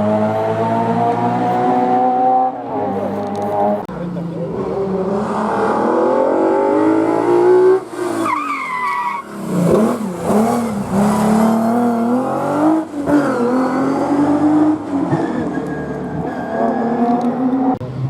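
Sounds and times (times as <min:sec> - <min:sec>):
rally car engine revving: 0:00.0 - 0:08.4, 0:09.0 - 0:18.0.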